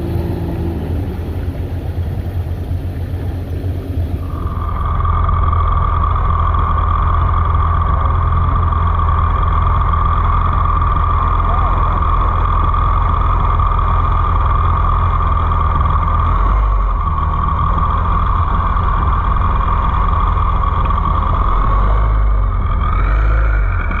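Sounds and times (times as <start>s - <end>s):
jet ski engine running: 0.0s - 24.0s.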